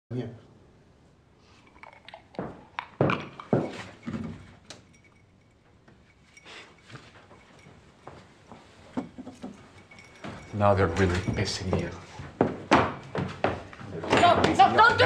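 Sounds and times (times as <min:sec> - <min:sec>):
short knocks and clinks: 0:01.7 - 0:14.8.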